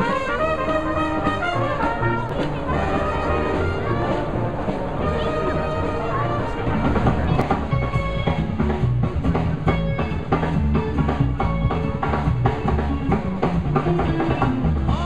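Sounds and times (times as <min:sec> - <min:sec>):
bass: 0:00.0 - 0:15.0
drum kit beat: 0:00.0 - 0:15.0
guitar: 0:00.0 - 0:15.0.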